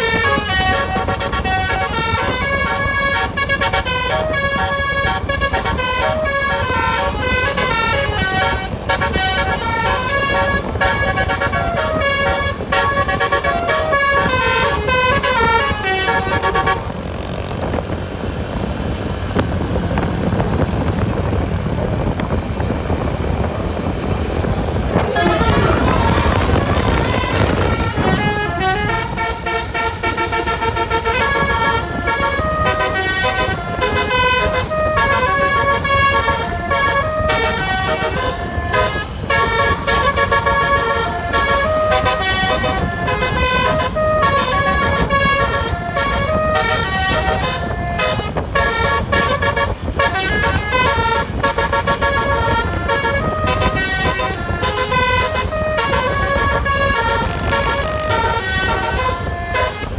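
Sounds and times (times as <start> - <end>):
bus multi-trumpet horn melody: 0.0 - 59.9
steady low rumble: 0.0 - 59.9.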